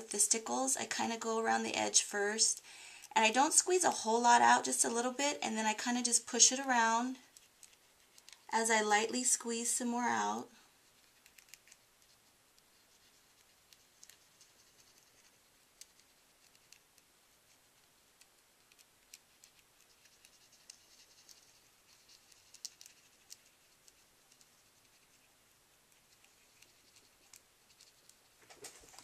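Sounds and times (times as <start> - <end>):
faint ticks and scratches: 0.0 - 29.0.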